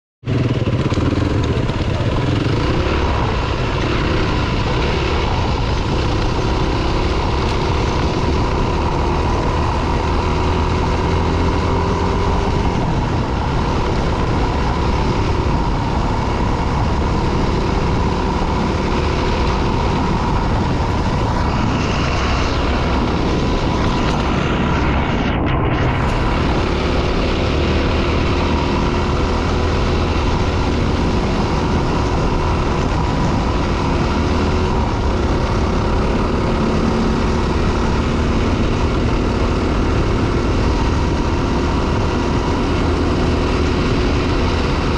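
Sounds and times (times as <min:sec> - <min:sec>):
dirt bike engine running: 0:00.2 - 0:44.9
wind rumble on microphone: 0:00.2 - 0:44.9.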